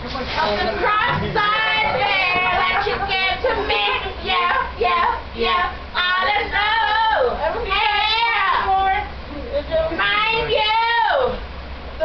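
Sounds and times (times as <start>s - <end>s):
woman singing unaccompanied: 0.6s - 11.4s.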